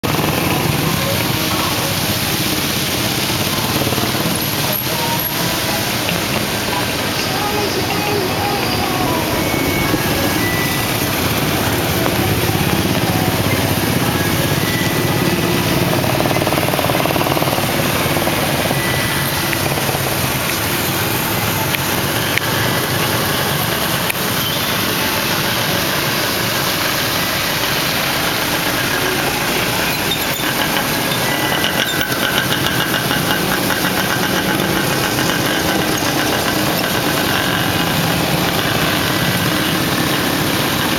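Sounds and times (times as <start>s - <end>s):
vehicle engines running and idling: 0.0s - 40.9s.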